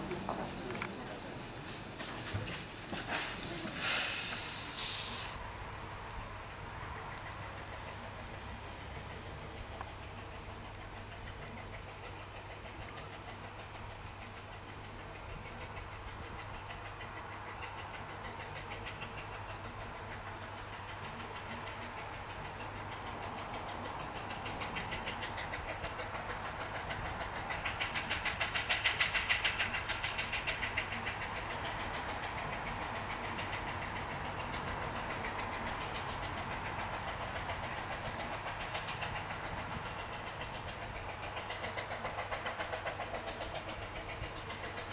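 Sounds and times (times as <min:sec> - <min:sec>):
steam locomotive exhaust beats: 0:00.0 - 0:44.9.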